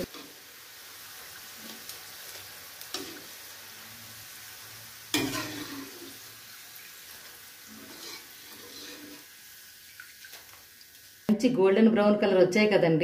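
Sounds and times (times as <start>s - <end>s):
food deep-frying in oil: 0.0s - 11.3s.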